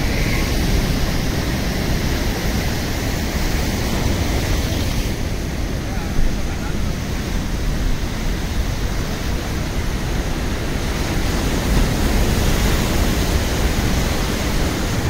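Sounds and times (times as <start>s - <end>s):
sea surf breaking on rocks: 0.0s - 15.0s
wind buffeting microphone: 0.0s - 15.0s.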